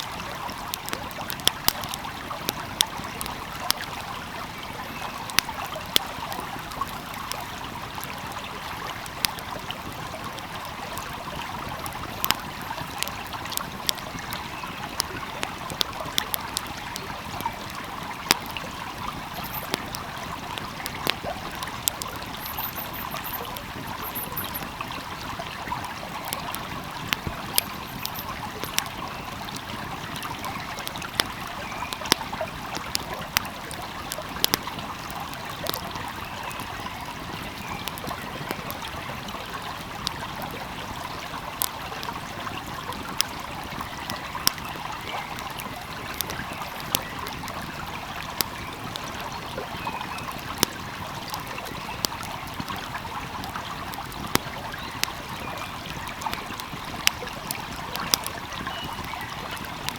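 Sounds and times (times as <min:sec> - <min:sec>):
stream flowing: 0:00.0 - 0:59.9
wood fire crackling: 0:00.0 - 0:59.9.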